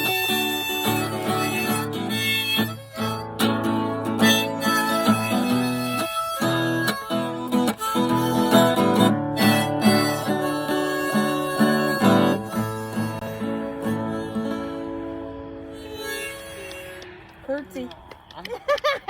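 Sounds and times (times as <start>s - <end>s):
acoustic guitar strumming chords: 0.0s - 17.0s
harmonica: 0.0s - 17.4s.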